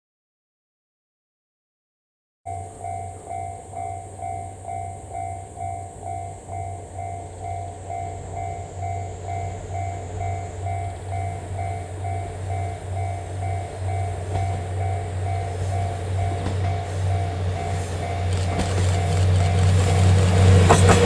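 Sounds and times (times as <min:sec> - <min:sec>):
level crossing warning bell: 0:02.5 - 0:21.0.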